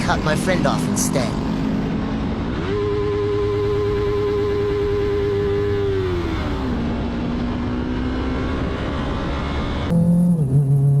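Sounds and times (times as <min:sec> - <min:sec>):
vehicle engine running steadily: 0:00.0 - 0:11.0
vehicle road noise: 0:00.0 - 0:11.0.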